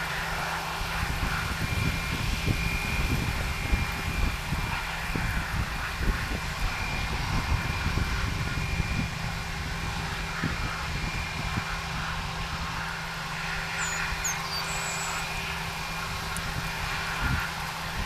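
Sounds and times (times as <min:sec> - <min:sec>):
jet engines whining: 0:00.0 - 0:18.0
wind rumbling on microphone: 0:00.0 - 0:18.0.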